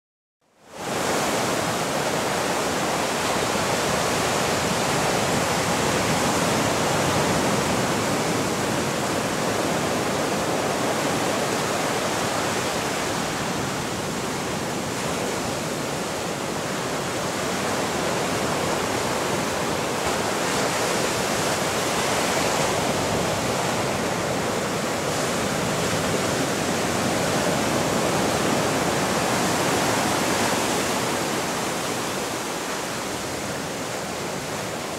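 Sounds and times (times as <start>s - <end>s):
rushing water: 0.6s - 34.9s.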